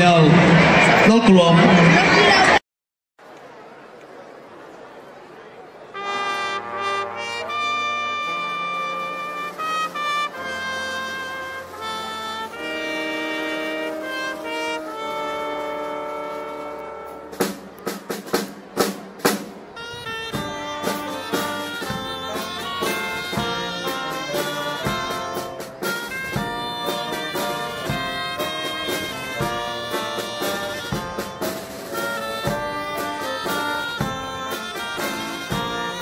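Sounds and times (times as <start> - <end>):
brass band playing: 5.9 - 36.0.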